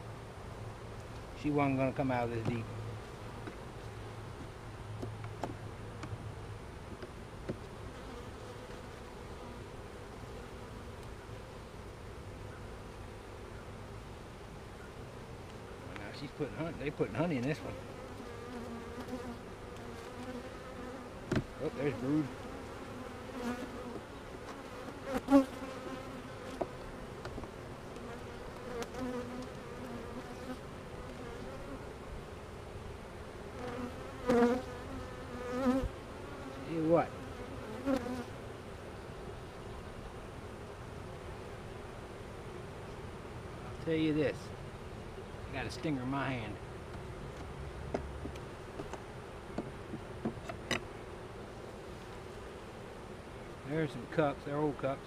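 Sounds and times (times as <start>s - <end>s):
bees buzzing: 7.4s - 54.7s.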